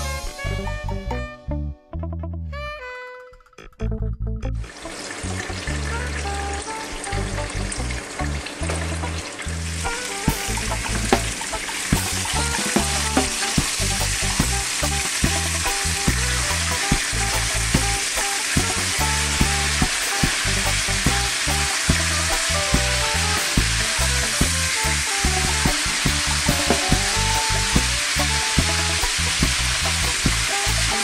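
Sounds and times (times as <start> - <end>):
background music with low beat: 0.0 - 4.7, 7.0 - 31.0
chicken sizzling in oil: 4.7 - 31.0.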